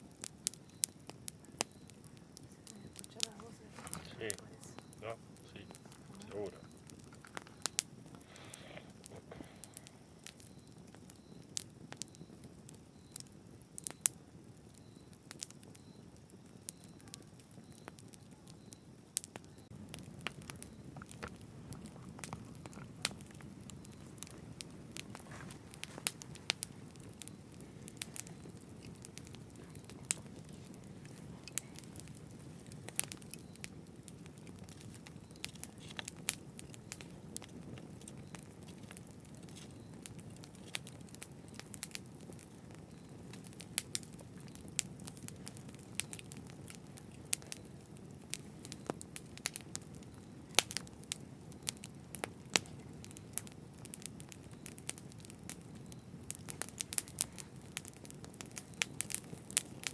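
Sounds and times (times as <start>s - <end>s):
low rush of flames: 0.0s - 59.9s
wood crackling and popping: 0.0s - 59.9s.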